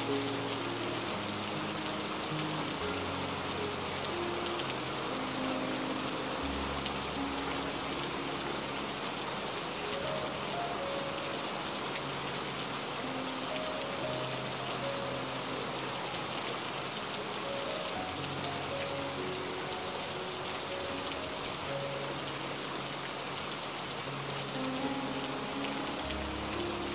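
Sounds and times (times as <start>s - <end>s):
steady rain patter: 0.0s - 26.9s.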